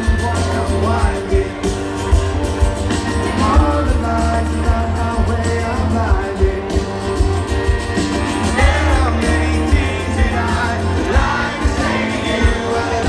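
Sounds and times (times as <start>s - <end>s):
live rock band with singing: 0.0s - 13.0s.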